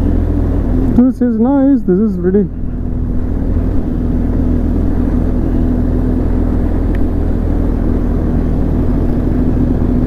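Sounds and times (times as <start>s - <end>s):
motorcycle engine cruising: 0.0s - 10.0s.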